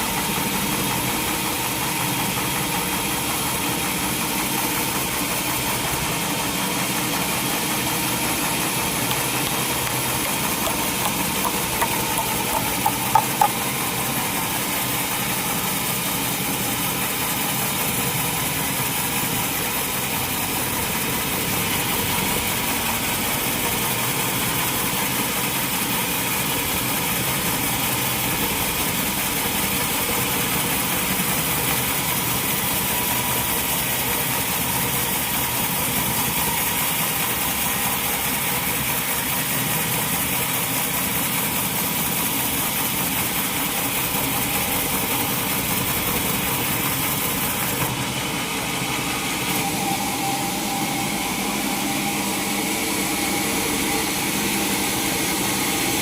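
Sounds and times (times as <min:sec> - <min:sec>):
sawmill saw and engine running: 0:00.0 - 0:56.0.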